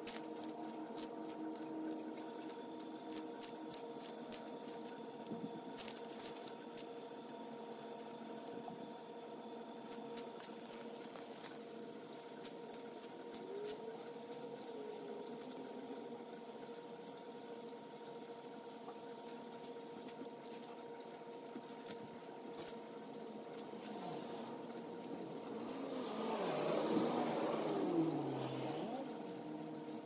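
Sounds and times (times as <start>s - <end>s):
tortoise crunching lettuce: 0.0s - 5.1s, 5.7s - 6.9s, 9.9s - 16.1s, 18.4s - 30.0s
mechanical hum: 0.0s - 30.0s.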